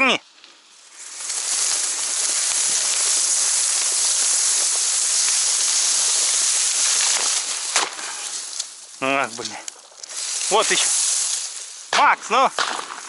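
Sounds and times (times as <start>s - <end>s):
rustling of grass and reeds: 0.0s - 13.0s.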